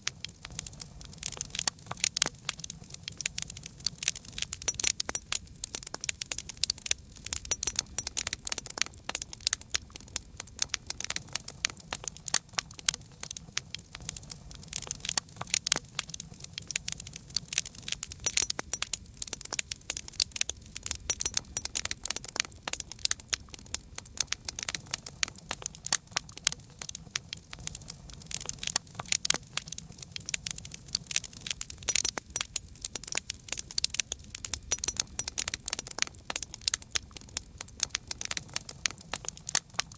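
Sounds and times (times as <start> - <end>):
campfire crackling: 0.0 - 39.9
low rumble of flames: 0.0 - 39.9.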